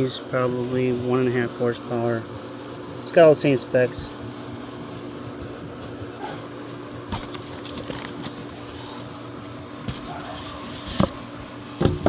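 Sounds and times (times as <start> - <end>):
pool pump motor humming: 0.0 - 12.0.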